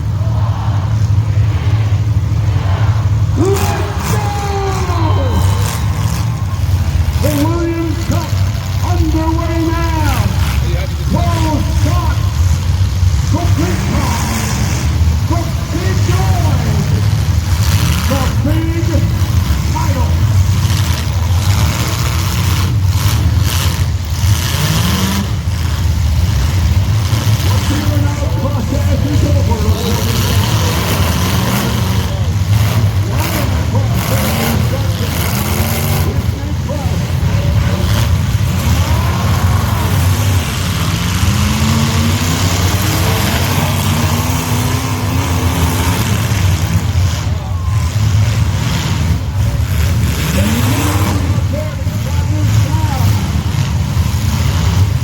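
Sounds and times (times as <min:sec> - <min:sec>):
car engine revving: 0:00.0 - 0:55.0
car engines running rough: 0:00.0 - 0:55.0.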